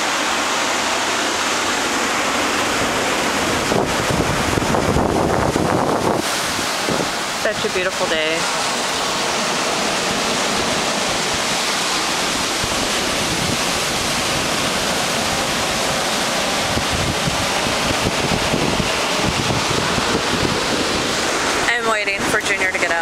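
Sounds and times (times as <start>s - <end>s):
ocean surf washing ashore: 0.0s - 23.0s
wind rumbling on microphone: 2.6s - 23.0s.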